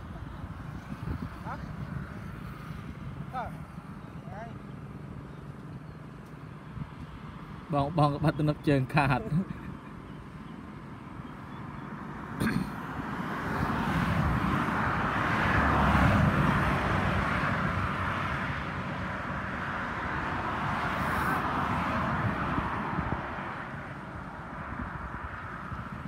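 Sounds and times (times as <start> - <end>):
distant vehicle passing: 0.0 - 26.0.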